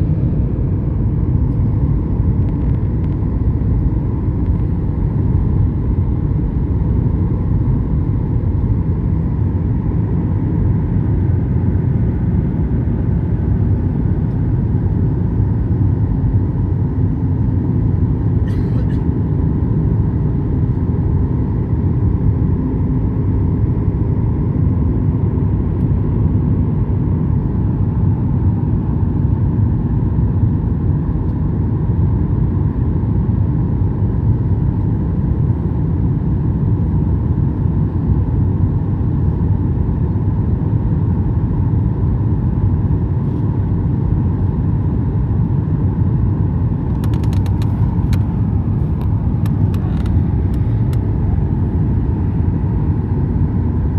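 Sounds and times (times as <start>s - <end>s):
airliner cabin roar: 0.0s - 53.9s.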